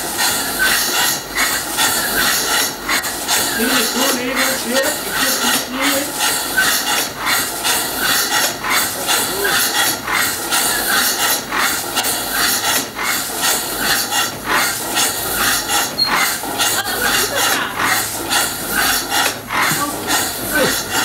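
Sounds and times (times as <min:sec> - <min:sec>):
steam engine exhaust chuffing: 0:00.0 - 0:21.0.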